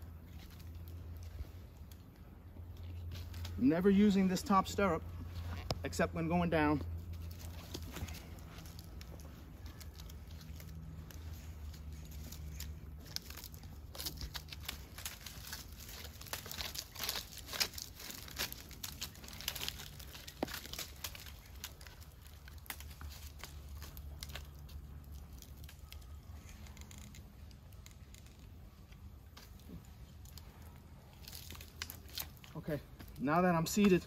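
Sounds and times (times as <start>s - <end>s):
gear scraping against tree trunk: 0.0s - 34.0s.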